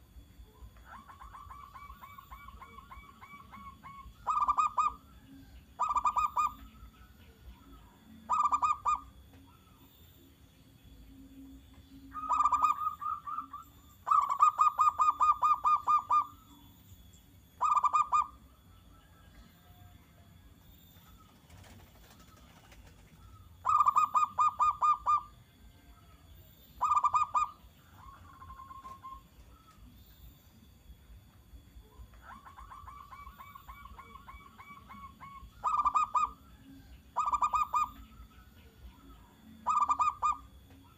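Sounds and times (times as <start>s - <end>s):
dove cooing in pulsed notes: 0.0s - 40.9s.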